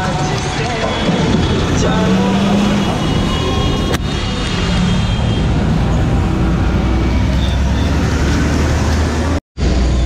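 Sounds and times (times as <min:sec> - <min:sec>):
highway traffic rumble: 0:00.0 - 0:10.0.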